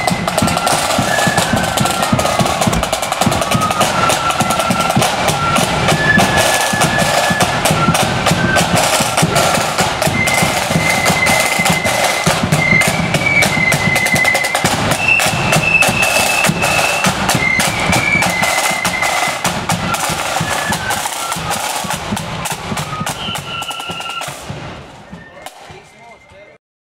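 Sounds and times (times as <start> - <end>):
bass drum: 0.0 - 25.7
cymbals: 0.0 - 26.6
flute melody: 0.0 - 26.6
snare drum rolls: 0.0 - 26.6.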